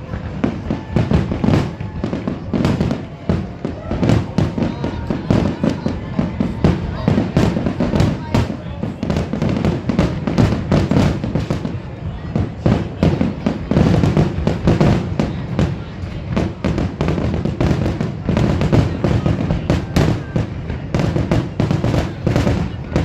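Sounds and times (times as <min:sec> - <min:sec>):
firework crackling: 0:00.0 - 0:23.0.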